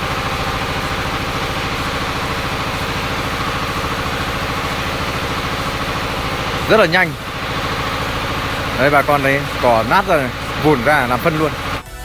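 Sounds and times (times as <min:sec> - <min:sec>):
diesel mower engine running: 0:00.0 - 0:12.0.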